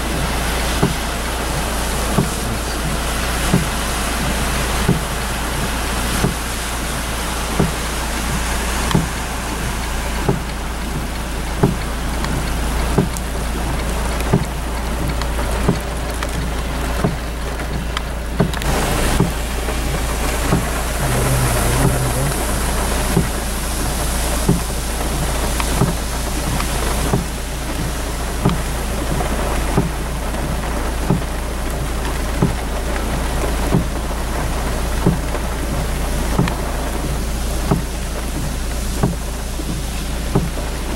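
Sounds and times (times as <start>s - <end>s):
rain on a car: 0.0s - 40.9s
windshield wipers thumping: 0.0s - 40.9s.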